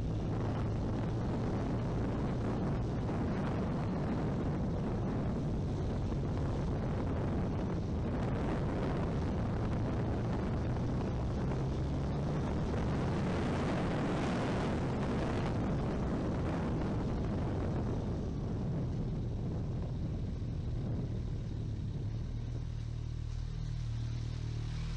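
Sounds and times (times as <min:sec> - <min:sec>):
motorcycle engine drone: 0:00.0 - 0:24.9
wind rush over microphone: 0:00.0 - 0:24.9.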